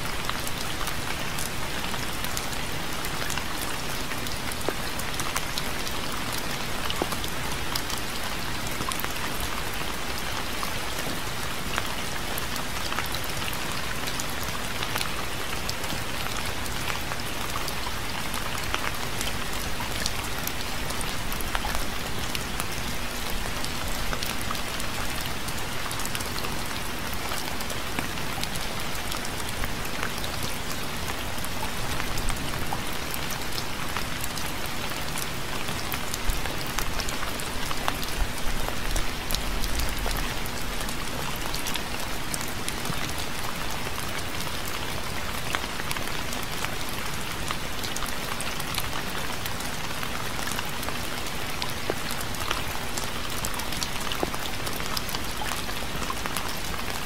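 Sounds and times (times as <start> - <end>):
rain falling: 0.0 - 57.0
raindrops ticking on surface: 0.0 - 57.0.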